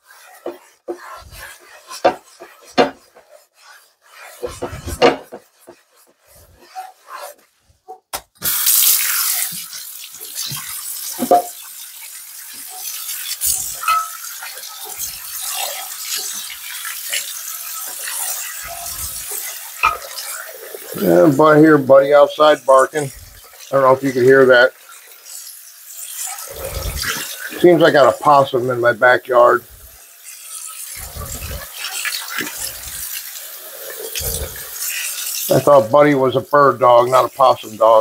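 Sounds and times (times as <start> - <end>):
faucet water running: 0.0 - 7.4, 8.4 - 38.0
scrubbing skillet in sink: 0.0 - 38.0.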